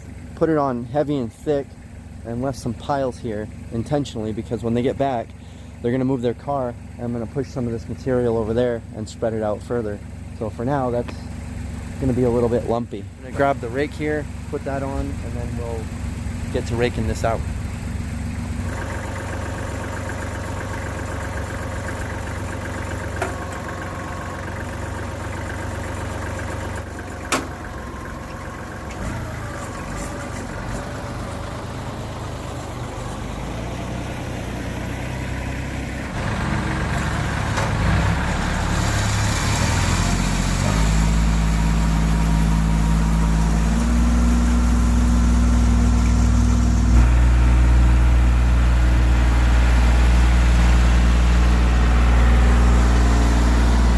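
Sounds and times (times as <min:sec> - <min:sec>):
tractor diesel engine: 0:00.0 - 0:53.9.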